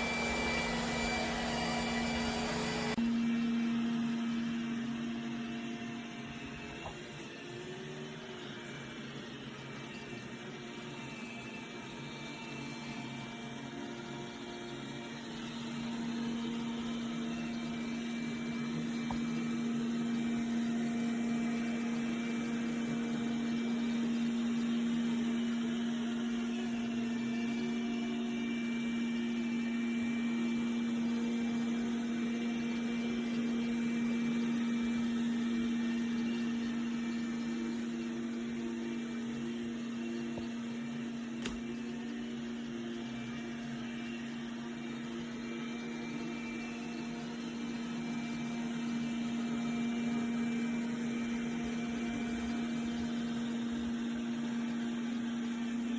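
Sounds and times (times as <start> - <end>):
robot vacuum running: 0.0 - 55.9.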